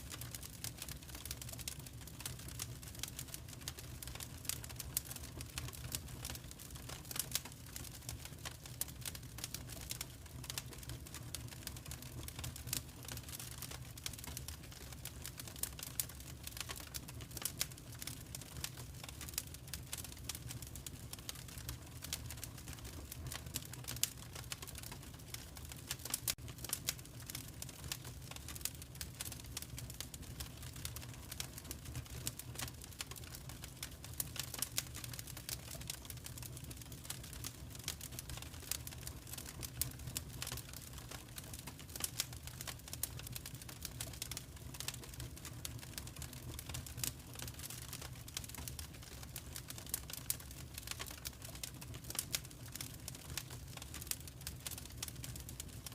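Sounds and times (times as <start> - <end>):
fire crackling: 0.0 - 55.9
low fire rumble: 0.0 - 55.9.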